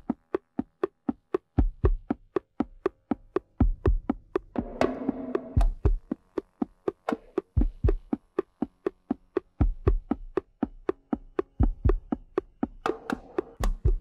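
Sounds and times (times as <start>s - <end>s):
sharp dry drum clicks: 0.0s - 14.0s.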